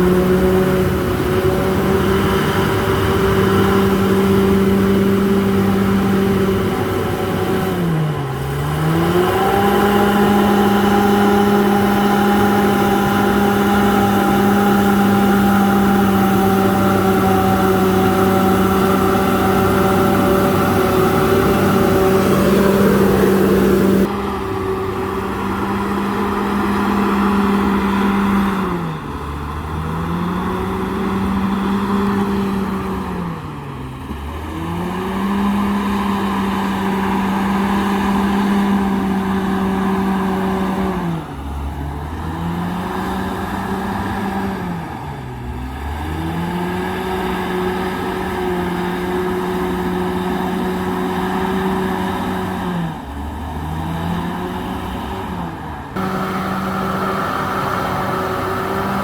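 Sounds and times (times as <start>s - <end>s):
bulldozer diesel engine running hard: 0.0s - 59.0s.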